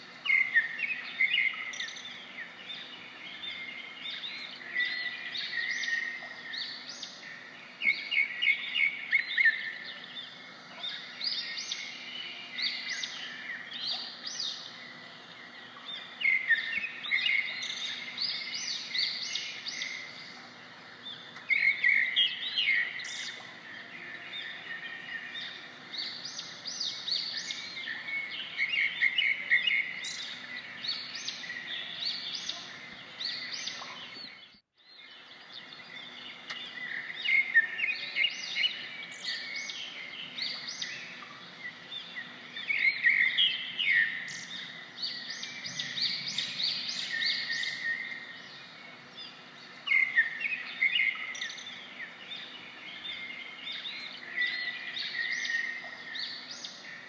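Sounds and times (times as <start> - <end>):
birds chirping and singing: 0.0 - 57.0
faint steady background noise: 0.0 - 57.0.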